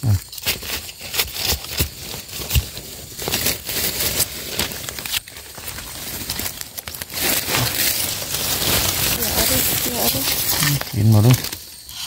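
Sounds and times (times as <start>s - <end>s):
dry leaves and twigs rustling: 0.0s - 12.0s.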